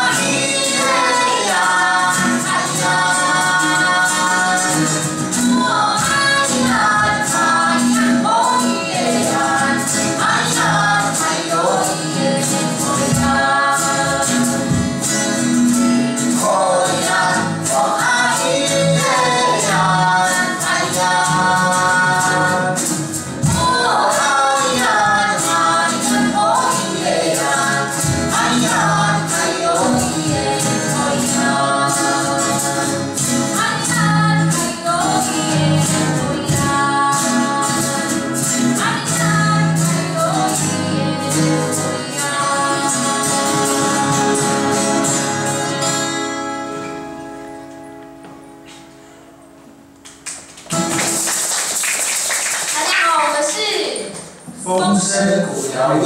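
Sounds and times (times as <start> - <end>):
man and woman singing: 0.0 - 45.2
strummed acoustic guitar: 0.0 - 51.4.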